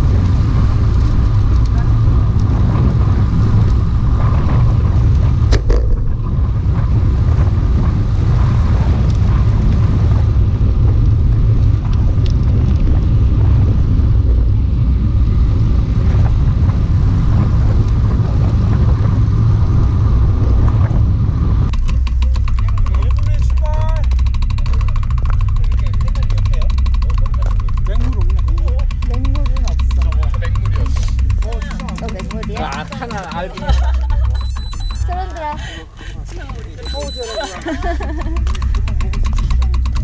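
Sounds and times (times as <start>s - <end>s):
road noise: 0.0s - 40.0s
wind rushing over microphone: 0.0s - 40.0s.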